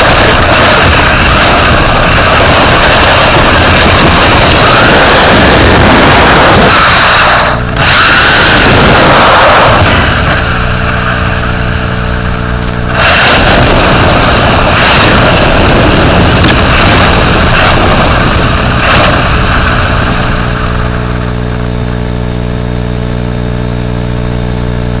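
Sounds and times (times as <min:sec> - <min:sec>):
tyres rushing on gravel: 0:00.0 - 0:21.4.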